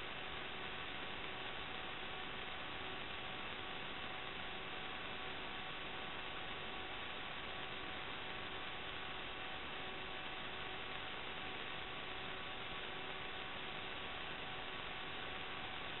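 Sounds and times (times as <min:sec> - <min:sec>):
electronic static hiss: 0:00.0 - 0:16.0.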